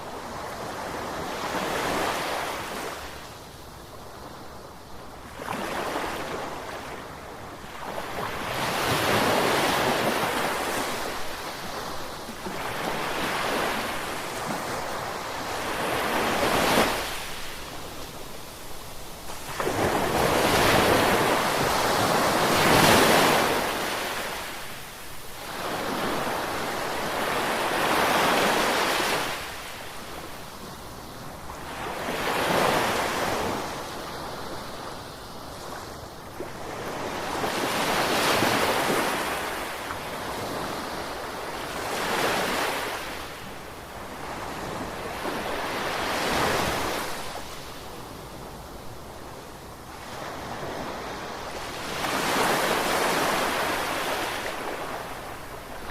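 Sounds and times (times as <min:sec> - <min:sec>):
ocean waves breaking on shore: 0:05.2 - 0:55.9.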